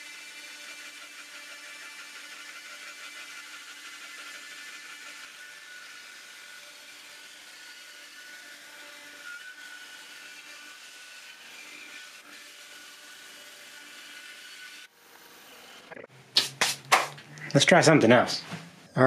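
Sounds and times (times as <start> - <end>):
band saw cutting wood: 0.0 - 17.9.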